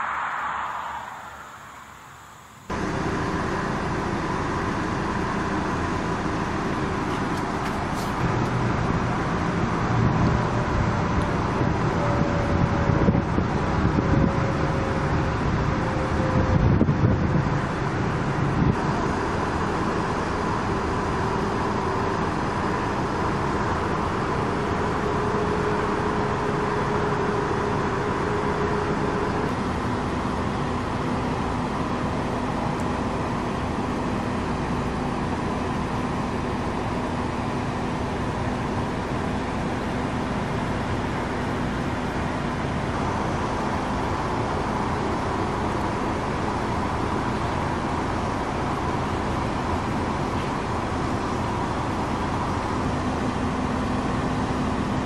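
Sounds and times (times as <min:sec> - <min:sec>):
faint car engine hum: 0:00.0 - 0:55.0
road noise: 0:00.0 - 0:55.0.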